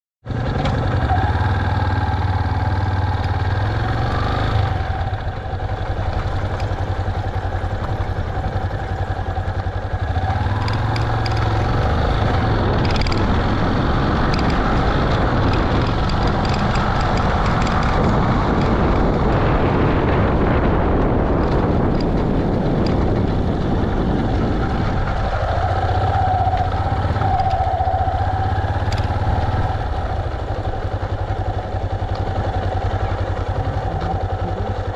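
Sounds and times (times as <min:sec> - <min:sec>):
motorcycle engine running: 0:00.2 - 0:34.9.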